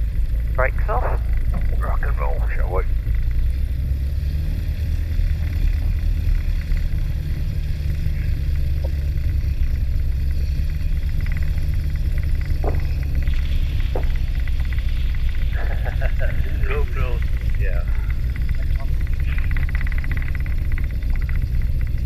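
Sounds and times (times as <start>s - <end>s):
aircraft piston engine running: 0.0s - 22.0s.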